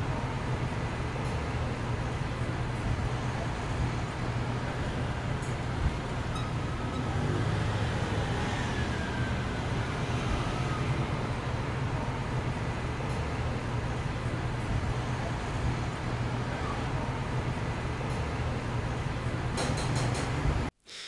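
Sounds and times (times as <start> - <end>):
city road traffic rumble: 0.0 - 20.7.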